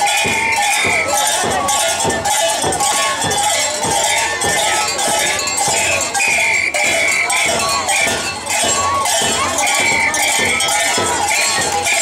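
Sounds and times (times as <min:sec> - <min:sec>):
bells clanking: 0:00.0 - 0:12.0
crowd noise: 0:00.0 - 0:12.0.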